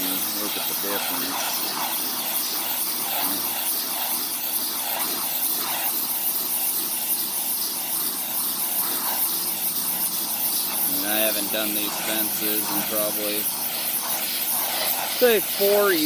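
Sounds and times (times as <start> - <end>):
pressure washer spraying wood: 0.0 - 16.0.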